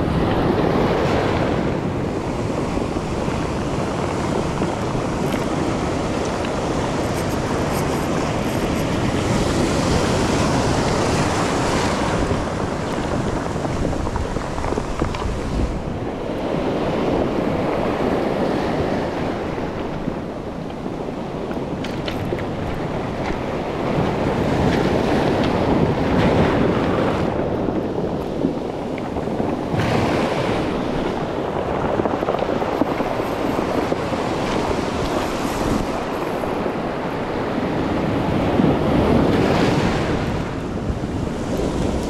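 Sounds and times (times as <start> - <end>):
wind on microphone: 0.0 - 42.0.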